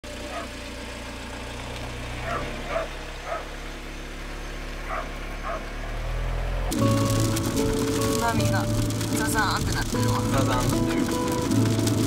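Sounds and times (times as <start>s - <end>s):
car driving drone: 0.0s - 12.0s.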